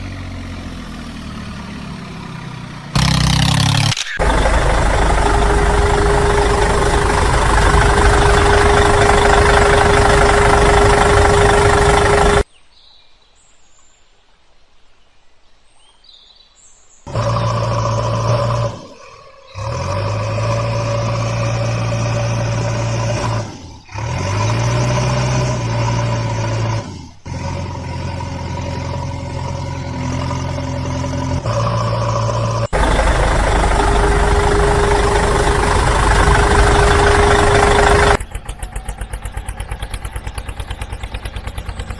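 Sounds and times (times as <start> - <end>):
vehicle engine running: 0.0 - 12.4, 17.1 - 41.9.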